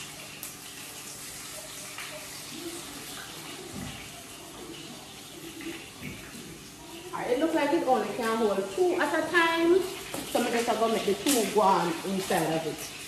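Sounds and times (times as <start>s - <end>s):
pots sizzling on stove: 0.0s - 13.0s.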